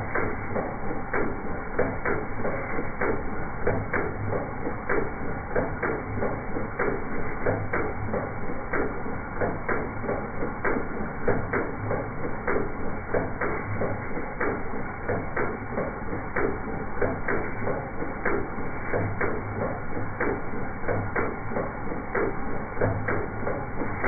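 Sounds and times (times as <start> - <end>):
car engine running with misfire: 0.0 - 24.0.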